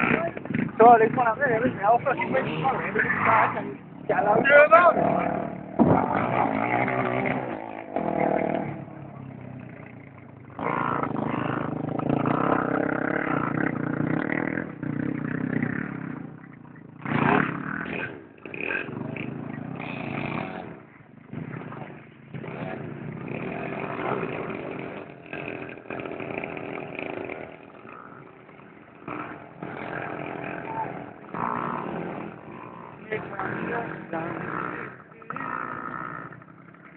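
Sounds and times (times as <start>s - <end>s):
motorcycle engine revving past: 0.0s - 36.9s.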